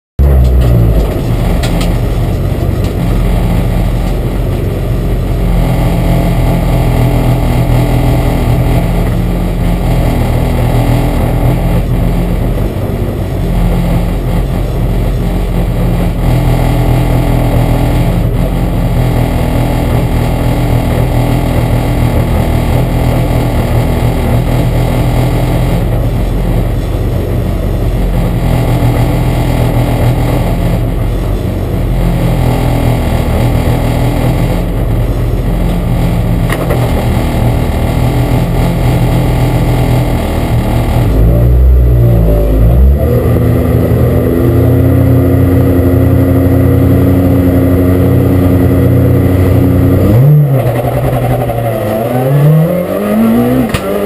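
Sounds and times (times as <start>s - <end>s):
car engine idling: 0.2s - 54.0s.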